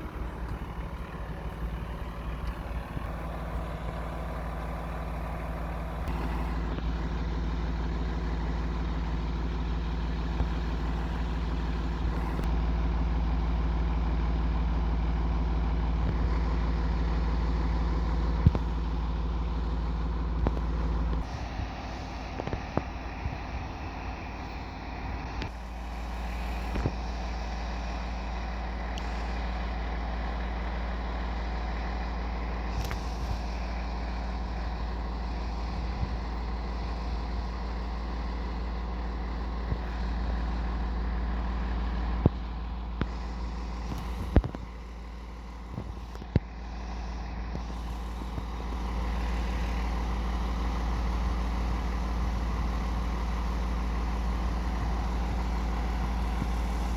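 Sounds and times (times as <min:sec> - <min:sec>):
diesel engine idling: 0:00.0 - 0:56.9.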